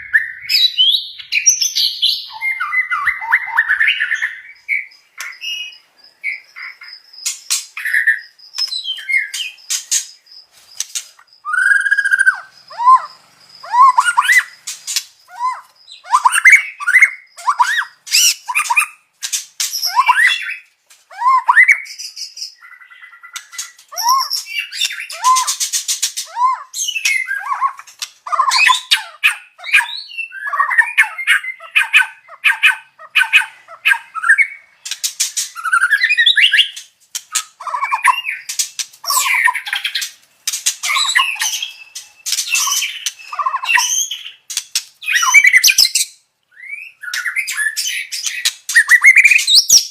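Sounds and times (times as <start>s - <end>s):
bird singing whistled song: 0.0s - 49.9s.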